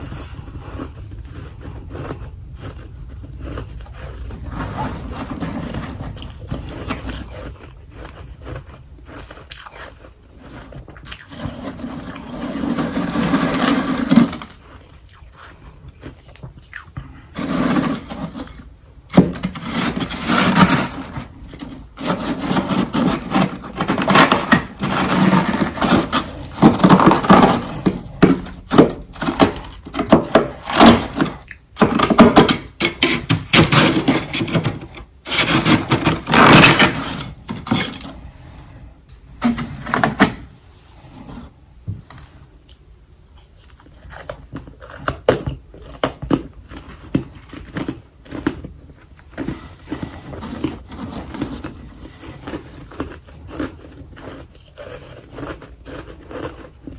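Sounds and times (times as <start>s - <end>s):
frost being chewed crunching: 0.0s - 34.3s, 42.1s - 56.9s.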